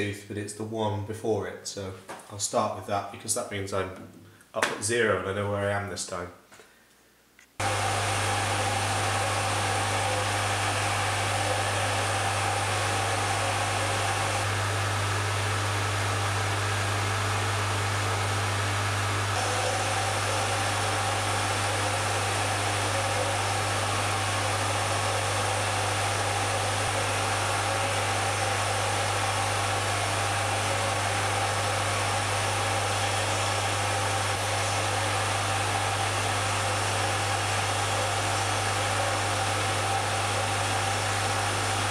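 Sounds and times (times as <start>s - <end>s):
lathe motor humming: 7.6s - 41.9s.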